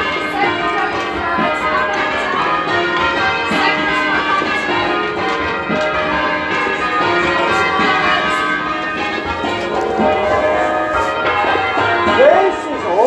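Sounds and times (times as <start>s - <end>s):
bell clapper knock: 0.0s - 13.0s
church bells change ringing: 0.0s - 13.0s.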